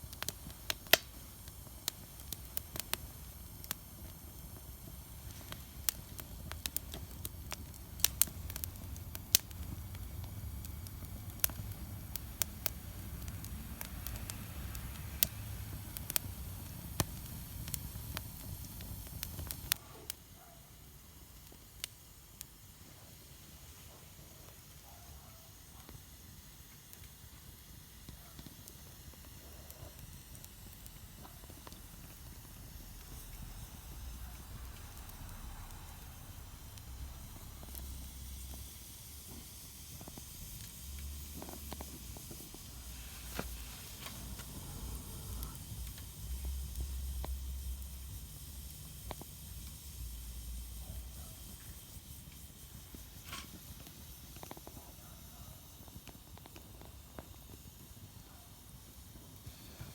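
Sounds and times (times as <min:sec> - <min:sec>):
sharp fire pops: 0:00.0 - 0:20.2, 0:26.6 - 0:54.9
low fire rumble: 0:00.0 - 0:24.9, 0:25.5 - 0:59.9
wood fire hissing and crackling: 0:00.0 - 0:59.9.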